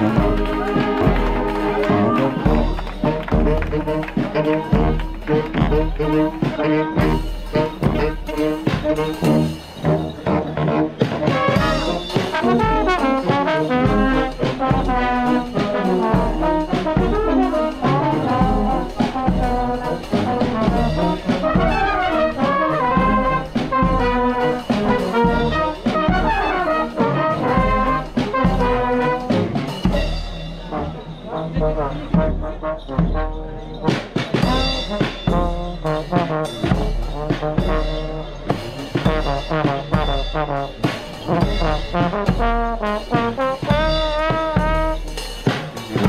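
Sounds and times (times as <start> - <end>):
bass drum beat: 0.0 - 10.0, 11.4 - 30.4, 34.4 - 46.0
brass band playing: 0.0 - 46.0.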